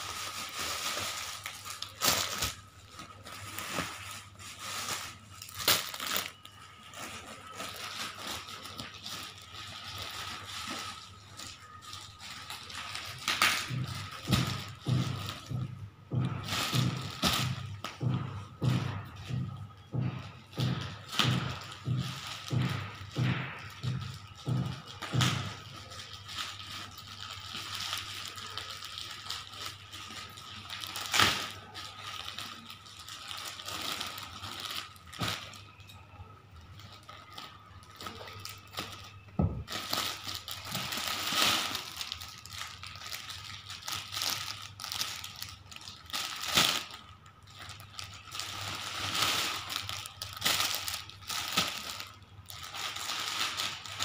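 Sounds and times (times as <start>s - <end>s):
plastic packaging crinkling: 0.0s - 54.0s.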